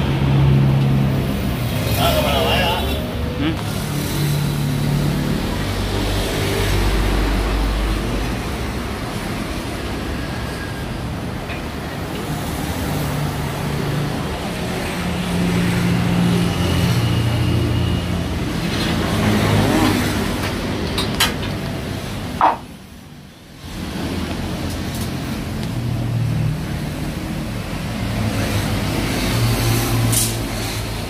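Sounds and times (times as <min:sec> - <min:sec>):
vehicle engines humming: 0:00.0 - 0:31.0.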